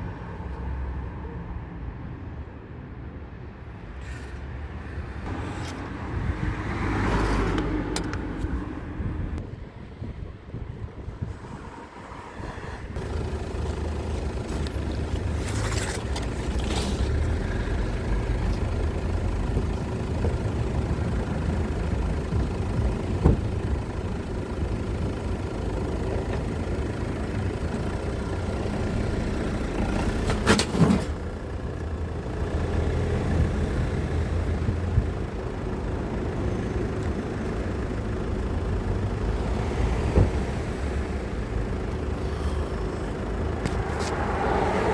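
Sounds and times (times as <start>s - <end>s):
car engine rumbling: 3.8s - 44.9s.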